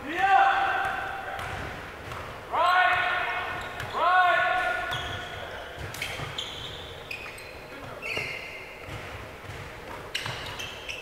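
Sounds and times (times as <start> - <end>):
basketball bouncing: 0.8 - 4.0, 4.6 - 11.0
sneakers squeaking on court: 0.9 - 11.0.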